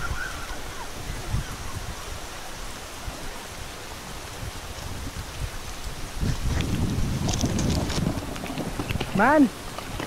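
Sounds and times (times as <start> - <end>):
heavy rain on water: 0.0 - 10.0.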